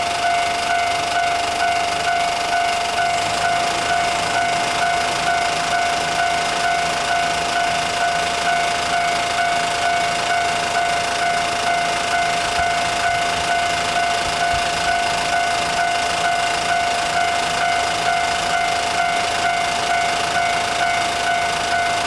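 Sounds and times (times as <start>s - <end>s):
level crossing alarm ringing: 0.0s - 22.0s.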